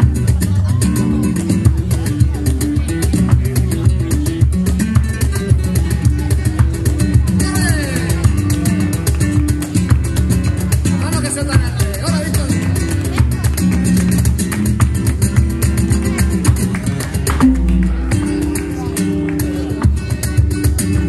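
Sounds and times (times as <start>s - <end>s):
flamenco guitar: 0.0s - 21.0s
hand drum percussion: 0.0s - 21.0s
sharp rhythmic strikes: 0.0s - 21.0s.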